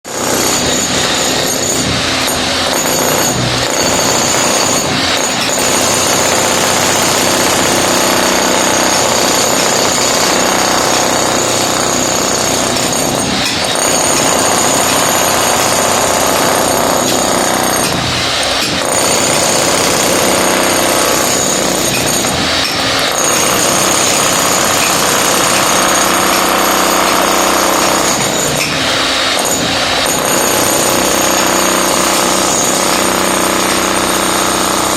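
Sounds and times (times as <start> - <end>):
demolition hammer breaking concrete: 0.0 - 34.9.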